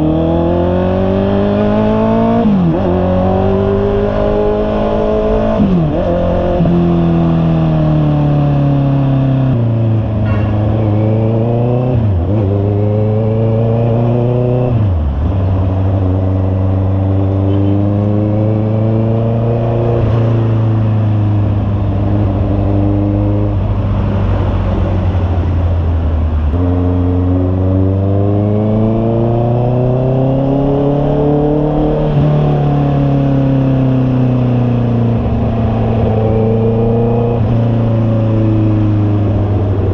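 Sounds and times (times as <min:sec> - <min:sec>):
motorcycle engine revving: 0:00.0 - 0:25.7, 0:26.3 - 0:39.9.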